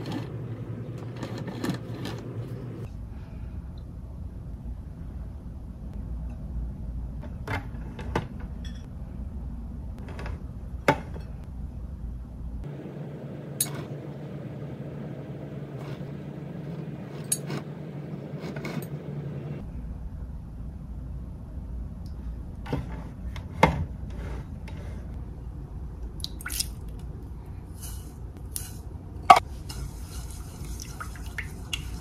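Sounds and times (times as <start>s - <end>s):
low room hum: 0.0s - 32.0s.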